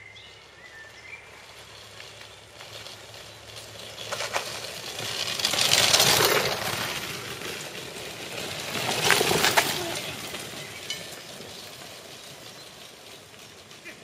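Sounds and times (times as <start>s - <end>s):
wheels crunching over gravel: 0.1s - 14.0s.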